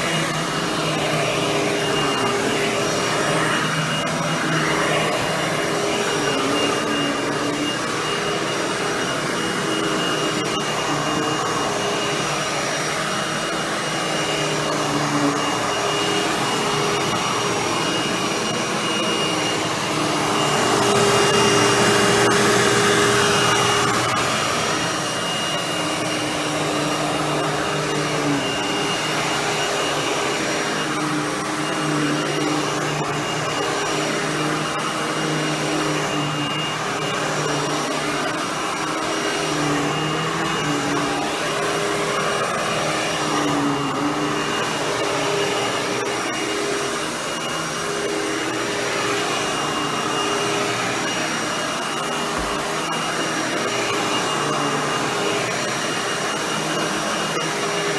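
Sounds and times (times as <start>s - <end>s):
vacuum cleaner on carpet: 0.0s - 57.9s.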